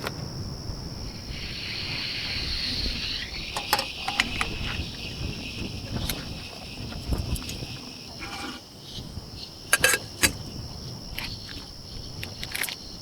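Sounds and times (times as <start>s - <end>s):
crickets chirring: 0.0s - 13.0s
wind rumble on microphone: 0.0s - 13.0s.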